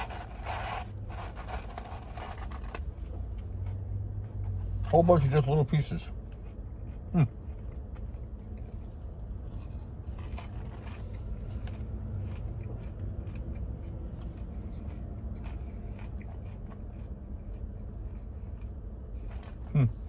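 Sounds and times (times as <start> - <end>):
low background hum: 0.0 - 20.0
man chewing fries: 0.0 - 20.0.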